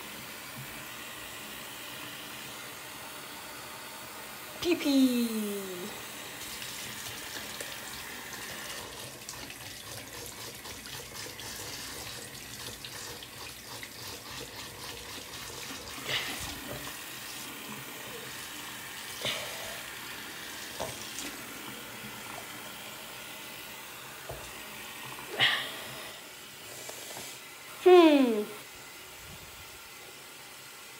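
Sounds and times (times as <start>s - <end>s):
faucet running: 0.0s - 30.9s.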